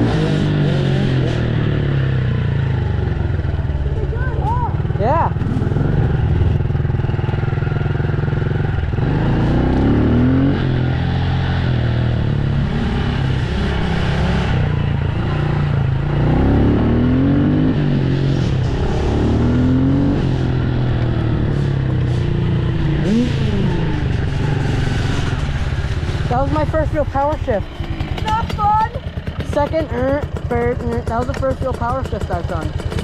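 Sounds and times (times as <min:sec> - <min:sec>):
dirt bike engine shifting gears: 0:03.4 - 0:33.0.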